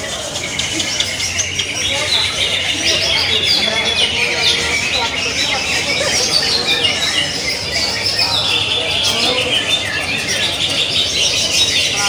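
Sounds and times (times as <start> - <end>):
caged birds singing in chorus: 0.0 - 12.0.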